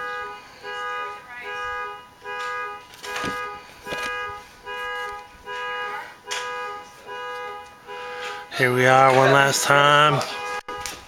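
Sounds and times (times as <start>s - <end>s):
car alarm pulsing tone: 0.0s - 11.0s.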